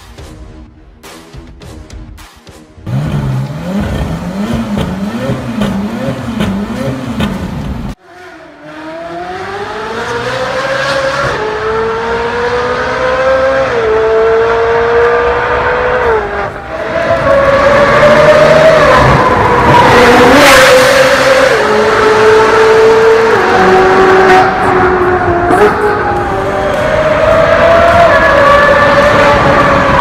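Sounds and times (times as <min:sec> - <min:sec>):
car engine revving: 0:02.8 - 0:30.0
engine accelerating hard: 0:02.8 - 0:30.0.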